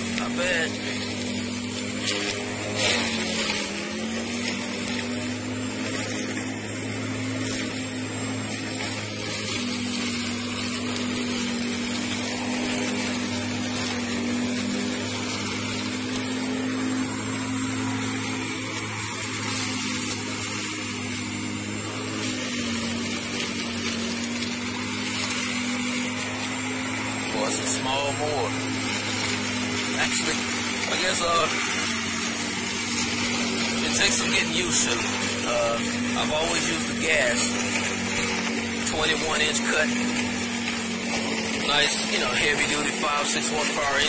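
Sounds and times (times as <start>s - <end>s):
electric lawn mower cutting grass: 0.0s - 44.0s.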